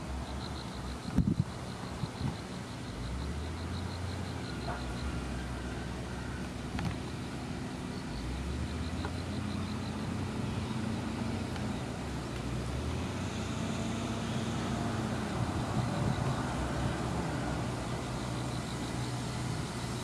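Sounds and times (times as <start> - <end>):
heavy machinery diesel engines: 0.0 - 20.0.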